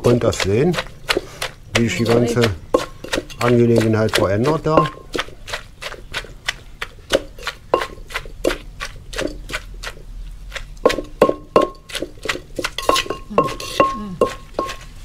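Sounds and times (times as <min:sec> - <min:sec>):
wooden pestle pounding in clay mortar: 0:00.0 - 0:15.0.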